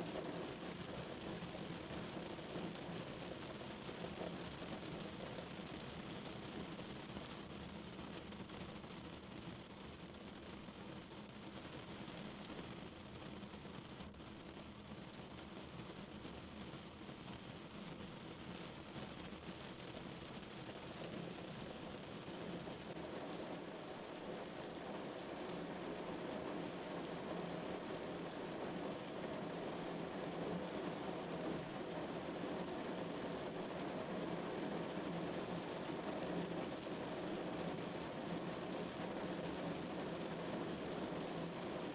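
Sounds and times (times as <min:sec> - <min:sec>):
rain falling on a car: 0:00.0 - 0:41.9.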